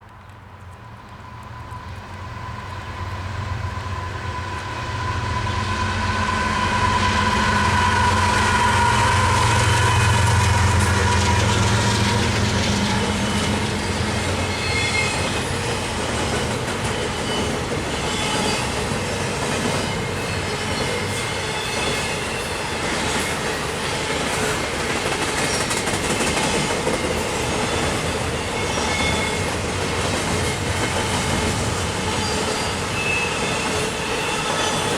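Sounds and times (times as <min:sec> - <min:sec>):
diesel locomotive rumble: 0:00.4 - 0:33.0
high wheel squeal: 0:03.5 - 0:24.8, 0:25.4 - 0:34.9.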